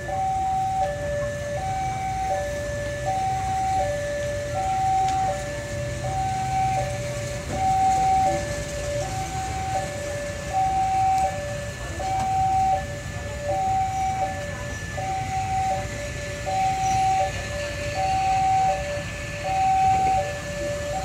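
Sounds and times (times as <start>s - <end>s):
level crossing alarm two tones: 0.0s - 21.0s
train rumbling past: 0.0s - 21.0s.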